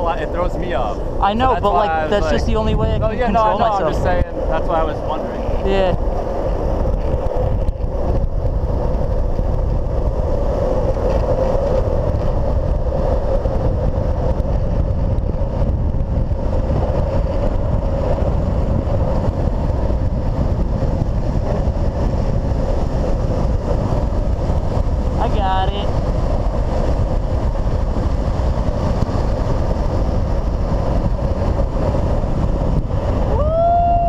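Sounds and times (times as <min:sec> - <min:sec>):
skateboard wheels rolling on asphalt: 0:00.0 - 0:34.0
wind buffeting microphone: 0:00.0 - 0:34.0.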